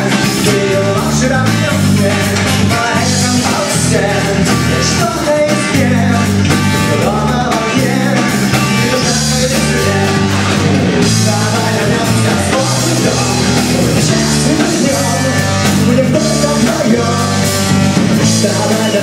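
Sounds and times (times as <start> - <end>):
bass notes: 0.0 - 19.0
drum kit: 0.0 - 19.0
male singer: 0.0 - 19.0
strummed guitars: 0.0 - 19.0.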